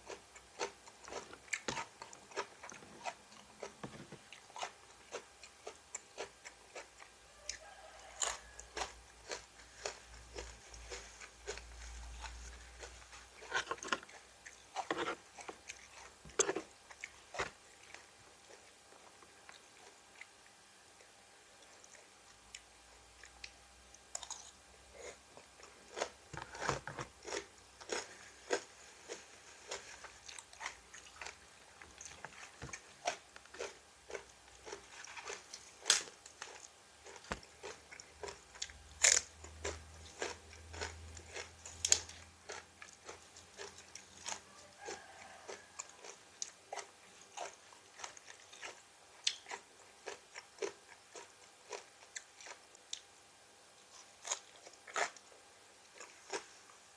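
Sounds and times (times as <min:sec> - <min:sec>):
person crunching raw vegetables: 0:00.0 - 0:18.6, 0:24.1 - 0:53.0.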